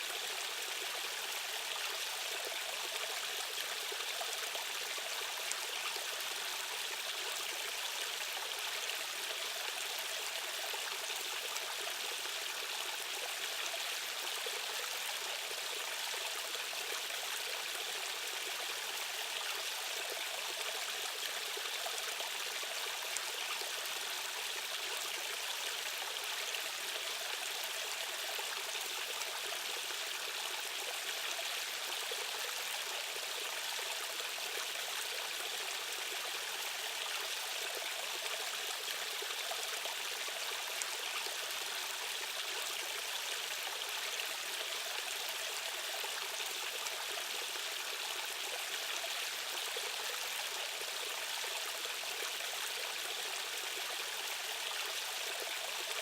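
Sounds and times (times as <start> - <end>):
stream water over rocks: 0.0 - 56.0.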